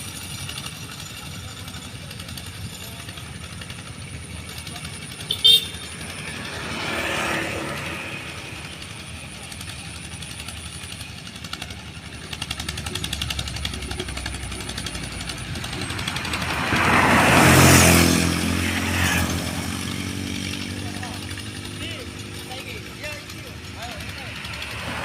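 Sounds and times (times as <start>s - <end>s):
old tractor engine running: 0.0s - 25.0s.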